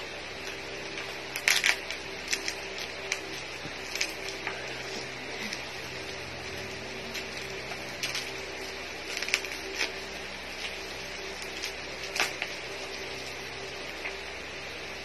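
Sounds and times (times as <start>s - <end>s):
steady background hiss: 0.0s - 15.0s
wrapping paper crinkling: 0.2s - 14.2s.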